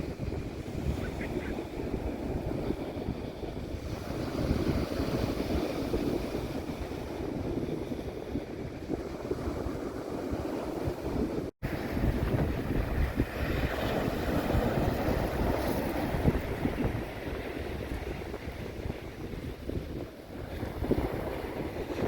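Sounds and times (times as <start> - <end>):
waves on the shore: 0.0 - 22.0
wind buffeting microphone: 0.0 - 22.0.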